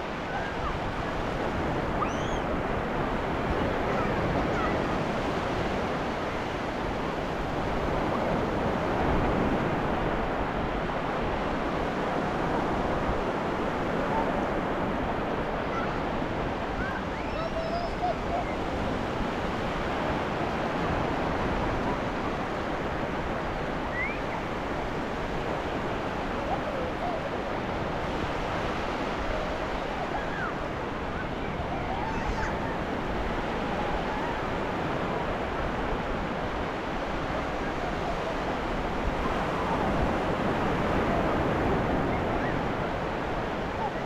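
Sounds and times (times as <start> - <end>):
ocean waves breaking on beach: 0.0 - 44.0.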